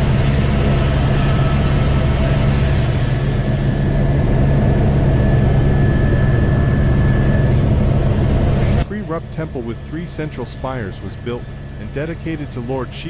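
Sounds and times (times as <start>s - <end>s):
faint high whine: 0.0s - 13.0s
helicopter engine and rotor drone: 0.0s - 13.0s.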